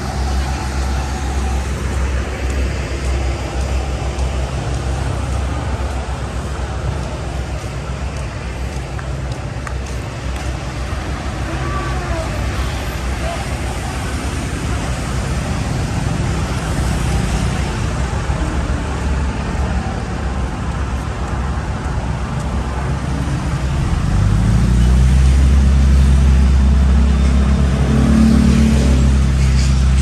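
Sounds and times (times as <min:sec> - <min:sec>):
street traffic: 0:00.0 - 0:30.0
vehicle engine rumbling close by: 0:00.0 - 0:30.0.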